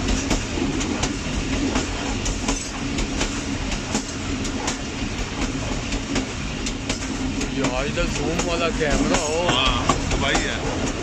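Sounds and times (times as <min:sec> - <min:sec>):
train rolling rumble: 0:00.0 - 0:11.0
wheel clicks over rail joints: 0:00.0 - 0:11.0.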